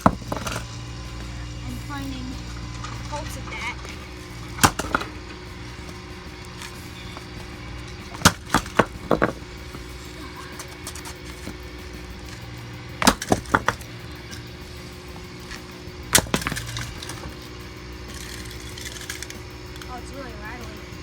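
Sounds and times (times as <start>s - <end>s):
alarm clock being smashed: 2.4s - 20.0s.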